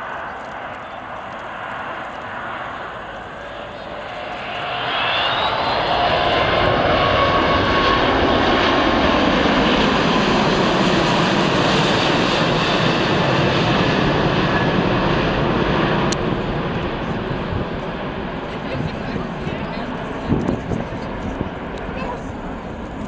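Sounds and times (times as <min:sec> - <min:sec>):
jet airliner roar: 0:00.0 - 0:23.0.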